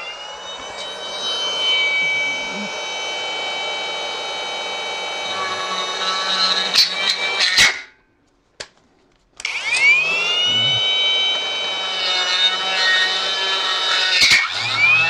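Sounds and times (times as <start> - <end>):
die grinder whining: 0.0 - 7.8, 9.4 - 15.0.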